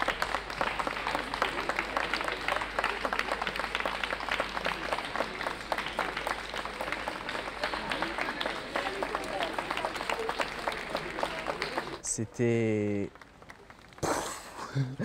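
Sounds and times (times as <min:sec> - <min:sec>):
crowd applauding: 0:00.0 - 0:14.6.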